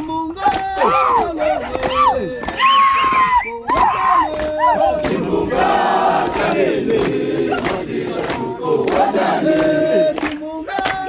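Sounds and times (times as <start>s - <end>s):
group of people singing and chanting: 0.0s - 11.0s.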